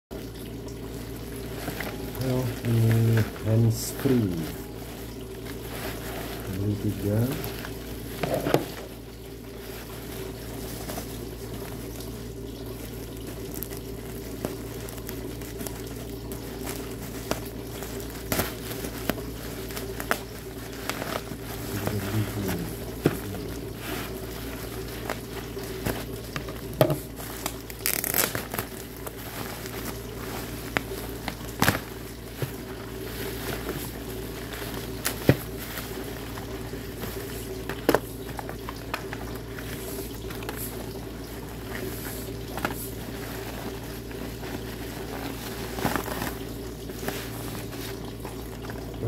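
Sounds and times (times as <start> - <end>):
plastic bag rustling and crinkling: 0.2 - 49.0
steady low hum: 0.2 - 49.0.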